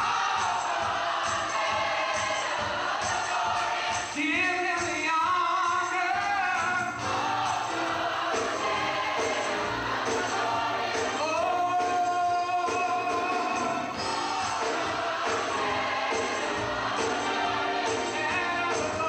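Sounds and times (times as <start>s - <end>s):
choir singing: 0.0s - 4.4s, 6.9s - 12.0s, 12.8s - 19.0s
instrumental accompaniment with beat: 0.0s - 19.0s.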